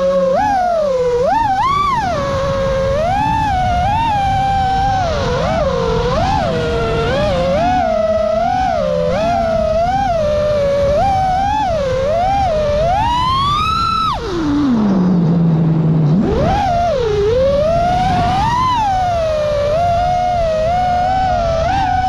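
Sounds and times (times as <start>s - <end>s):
drone motors whining: 0.0s - 22.0s
wind noise: 0.0s - 22.0s.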